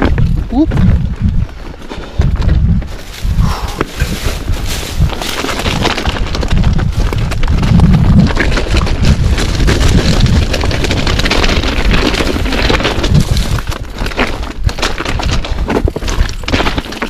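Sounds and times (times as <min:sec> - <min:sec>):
wind on microphone: 0:00.0 - 0:16.8
bike rattling: 0:00.0 - 0:17.0
bike tyres rolling over stones: 0:00.0 - 0:17.0.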